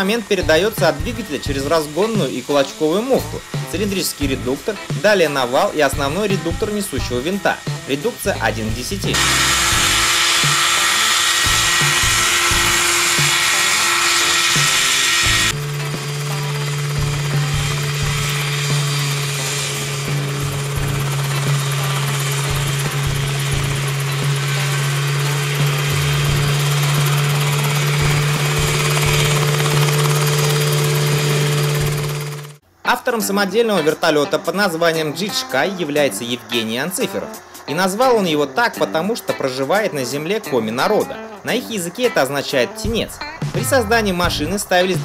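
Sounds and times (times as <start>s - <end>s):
helicopter engine and rotor buzzing: 0.0s - 32.7s, 35.1s - 41.6s.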